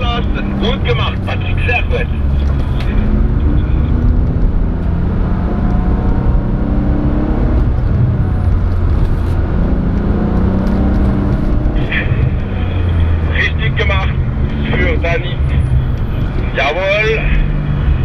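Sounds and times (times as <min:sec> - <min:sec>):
car engine accelerating: 0:00.0 - 0:18.0
road noise: 0:00.0 - 0:18.0.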